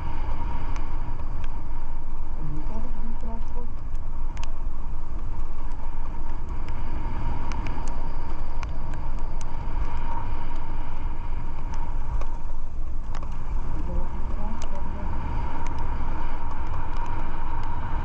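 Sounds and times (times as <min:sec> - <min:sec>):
faint steady whine: 0:00.0 - 0:18.0
vehicle road rumble: 0:00.0 - 0:18.0
light clicks: 0:02.7 - 0:17.9.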